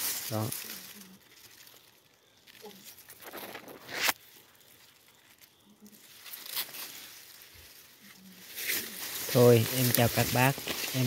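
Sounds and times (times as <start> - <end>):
grass and leaves rustling: 0.0 - 11.0.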